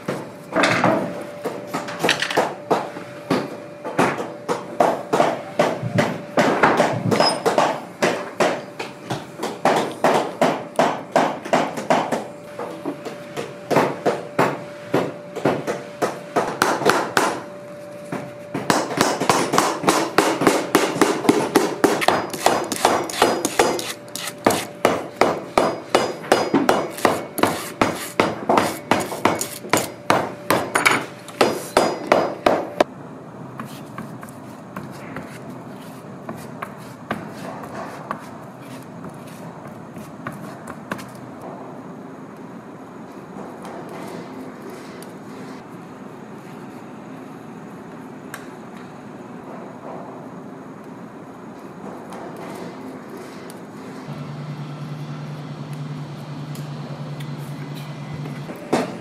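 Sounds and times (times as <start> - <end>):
faint workshop noise: 0.0 - 59.0.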